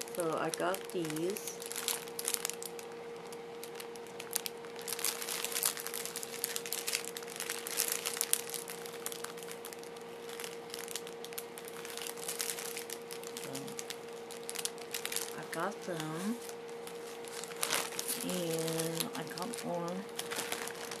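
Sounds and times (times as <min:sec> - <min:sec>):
faint steady hum: 0:00.0 - 0:21.0
plastic bags crinkling: 0:00.0 - 0:21.0.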